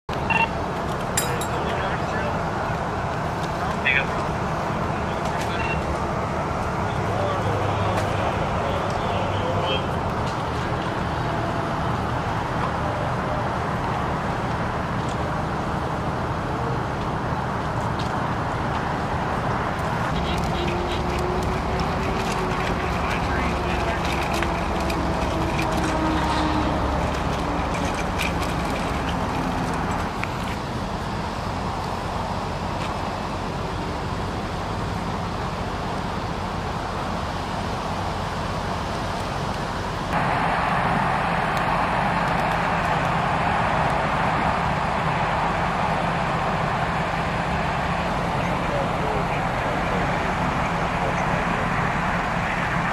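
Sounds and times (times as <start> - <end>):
rumble of traffic engines: 0.1 - 52.9.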